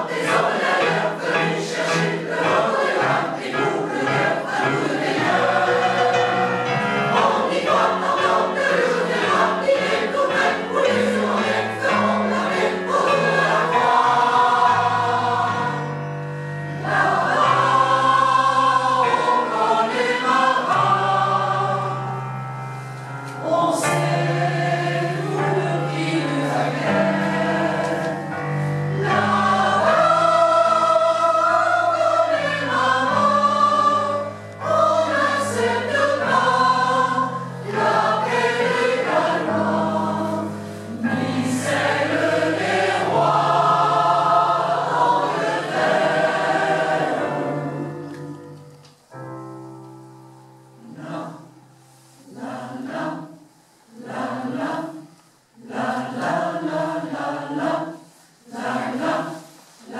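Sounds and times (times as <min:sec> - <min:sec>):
mixed choir singing: 0:00.0 - 0:48.8, 0:50.6 - 0:59.9.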